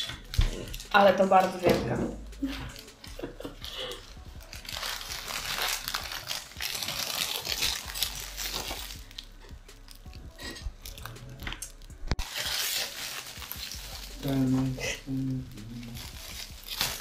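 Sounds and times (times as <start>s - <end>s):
cellophane crinkling: 2.4s - 17.0s.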